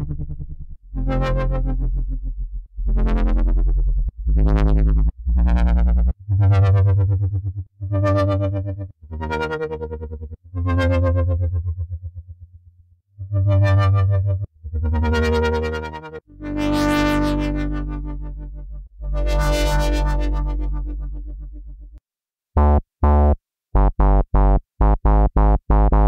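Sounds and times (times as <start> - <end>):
bass synthesizer notes: 0.0 - 12.5, 13.2 - 22.0, 22.6 - 26.0.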